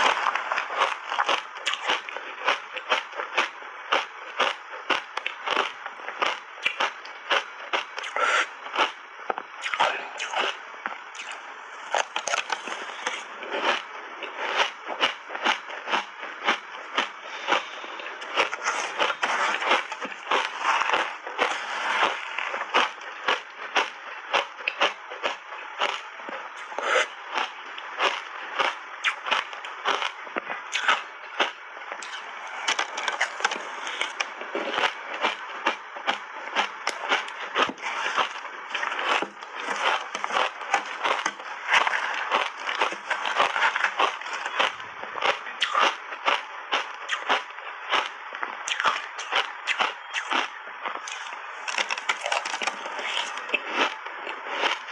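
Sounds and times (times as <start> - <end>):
chewing crunchy ice: 0.0 - 54.9.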